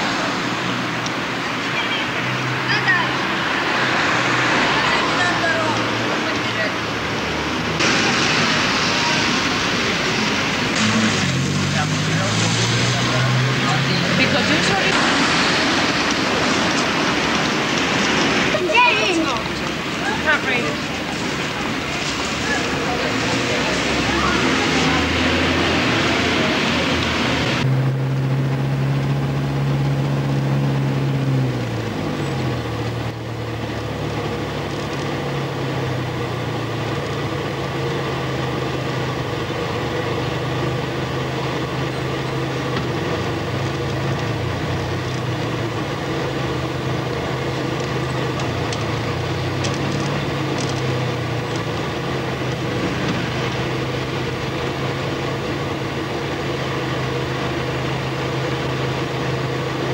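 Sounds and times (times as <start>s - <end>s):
road noise: 0.0s - 59.9s
vehicle engine drone: 0.0s - 59.9s.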